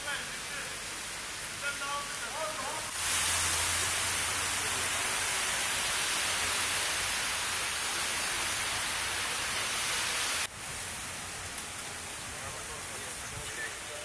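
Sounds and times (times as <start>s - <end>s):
cars driving through water: 0.0s - 14.0s
water hissing on flooded street: 0.0s - 14.0s.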